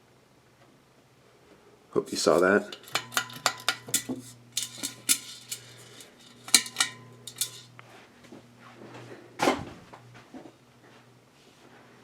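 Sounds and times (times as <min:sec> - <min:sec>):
ceiling fan motor hum: 0:01.5 - 0:12.0.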